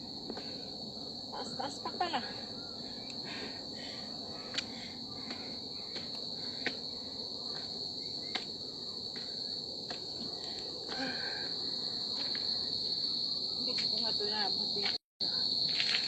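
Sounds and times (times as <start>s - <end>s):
insect chorus droning: 0.0s - 16.0s.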